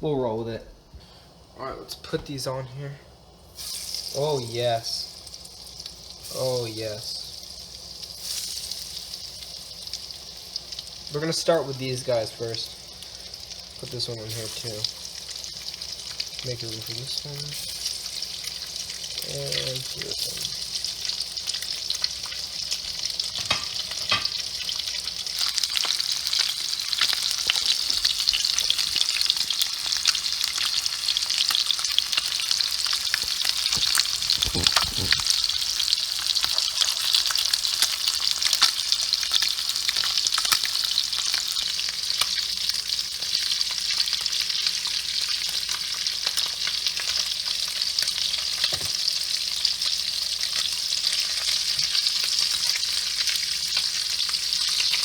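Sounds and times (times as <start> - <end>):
fish frying in hot oil: 3.4 - 55.0.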